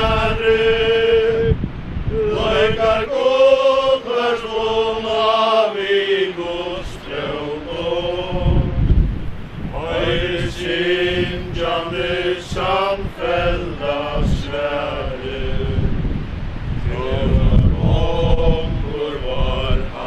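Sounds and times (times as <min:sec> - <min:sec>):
group singing a hymn: 0:00.0 - 0:20.0
wind on microphone: 0:00.0 - 0:20.0.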